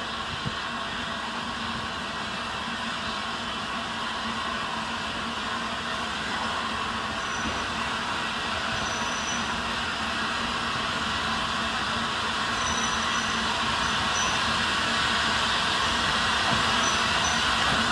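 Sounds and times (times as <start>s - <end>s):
steam locomotive running on rails: 0.0s - 17.9s.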